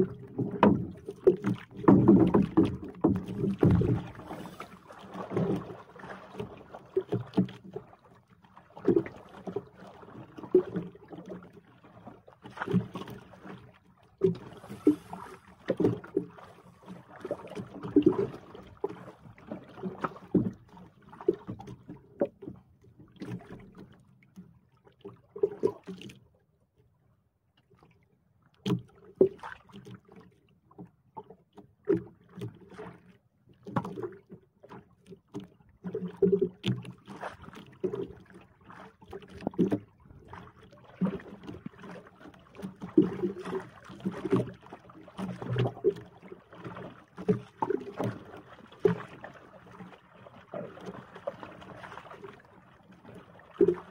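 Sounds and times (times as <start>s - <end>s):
water slapping against boat hull: 0.0s - 26.2s, 28.6s - 53.9s.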